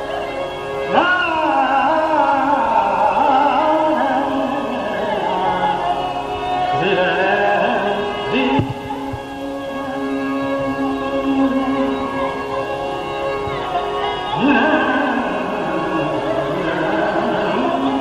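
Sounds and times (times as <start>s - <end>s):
steady drone: 0.0s - 18.0s
man singing classical vocal line: 0.8s - 12.5s, 14.1s - 18.0s.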